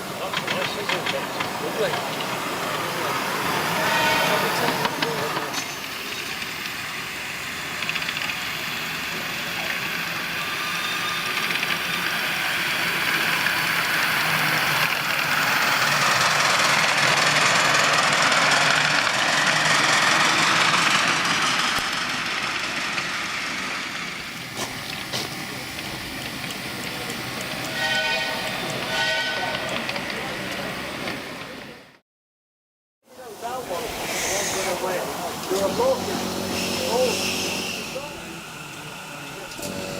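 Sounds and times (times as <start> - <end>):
miniature train rumbling past: 0.0 - 32.0, 33.2 - 39.9.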